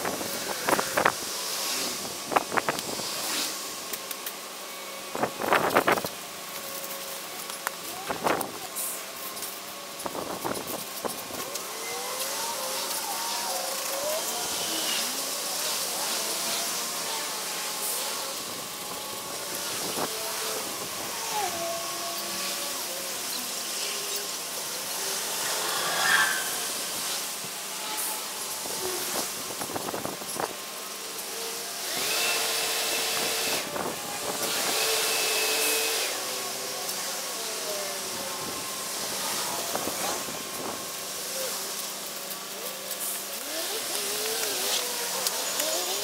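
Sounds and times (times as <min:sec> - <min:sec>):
faint wavering motor hum: 0:00.0 - 0:46.0
steady outdoor hiss: 0:00.0 - 0:46.0.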